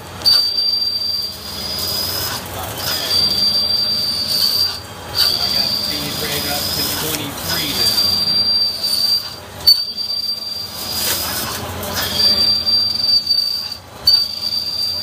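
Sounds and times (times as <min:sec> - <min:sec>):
lathe tool squealing: 0:00.0 - 0:15.0
metal cutting noise: 0:00.0 - 0:15.0.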